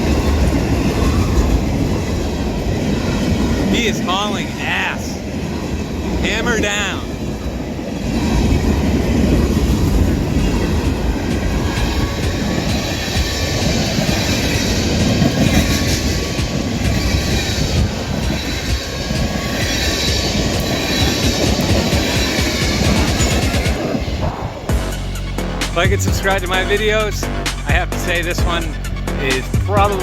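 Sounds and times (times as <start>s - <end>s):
wheels clicking over rail joints: 0.0s - 4.4s, 5.2s - 30.0s
train wheels rumbling on rail: 0.0s - 30.0s.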